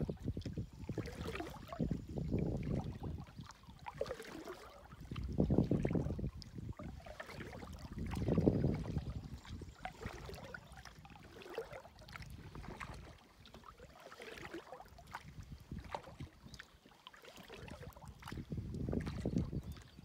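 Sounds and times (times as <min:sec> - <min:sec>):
paddle drips and splashes: 0:00.0 - 0:20.0.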